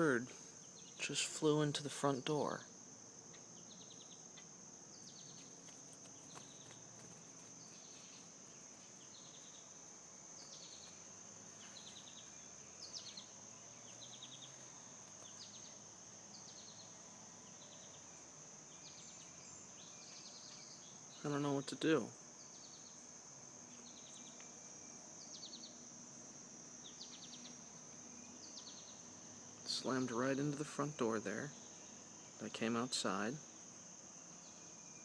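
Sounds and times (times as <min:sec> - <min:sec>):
insect chorus drone: 0:00.0 - 0:35.0
pulsed insect chirps: 0:00.0 - 0:35.0.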